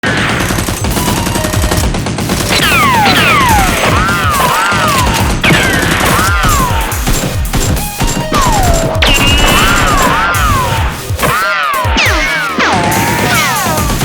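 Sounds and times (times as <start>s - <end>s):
rapid gunfire: 0.0s - 14.0s.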